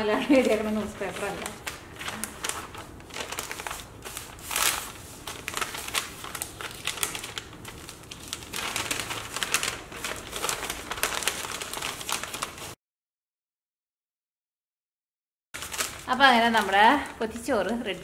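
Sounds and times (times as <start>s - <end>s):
newspaper rustling and crinkling: 0.1s - 12.8s, 15.6s - 18.0s.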